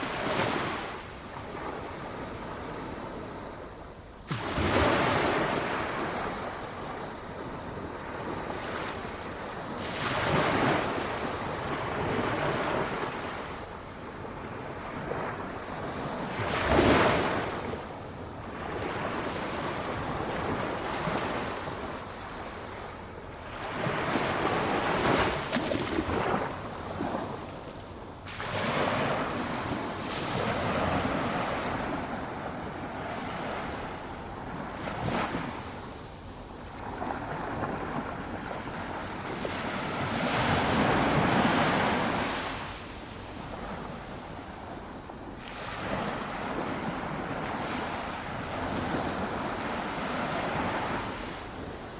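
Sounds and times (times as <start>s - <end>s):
small waves washing up shore: 0.0s - 51.9s.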